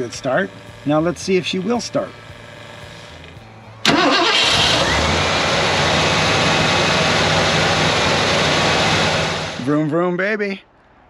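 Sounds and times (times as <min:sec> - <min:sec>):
truck engine cranking and running: 0:00.0 - 0:09.7.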